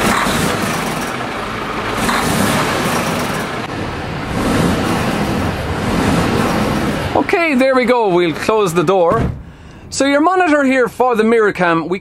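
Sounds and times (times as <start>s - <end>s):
diesel engine idling: 0.0s - 11.8s.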